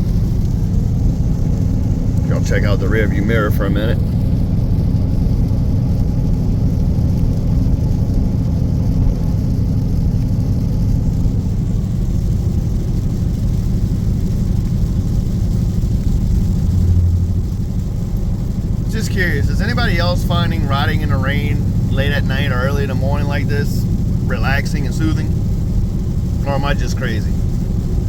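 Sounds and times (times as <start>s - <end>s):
car cabin drone at highway speed: 0.0s - 28.0s.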